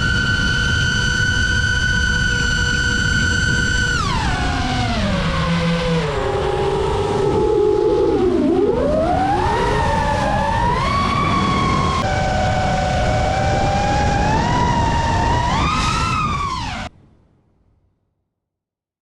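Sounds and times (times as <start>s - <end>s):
drone motors whining: 0.0s - 16.9s
rushing wind: 0.0s - 17.6s.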